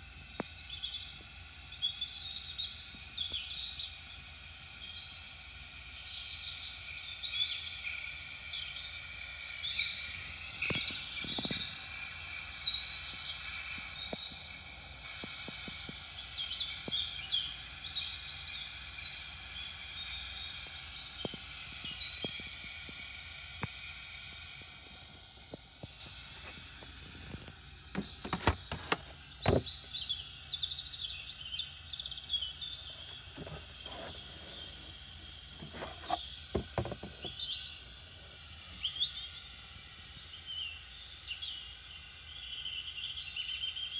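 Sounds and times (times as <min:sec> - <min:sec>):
small birds chirping: 0:00.0 - 0:43.9
steady high hiss: 0:00.0 - 0:43.9.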